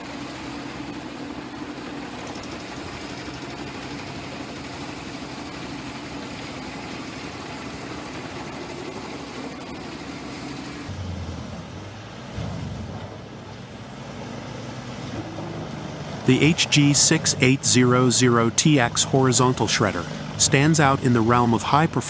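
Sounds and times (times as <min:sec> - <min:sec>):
heavy machine engine running: 0:00.0 - 0:22.0.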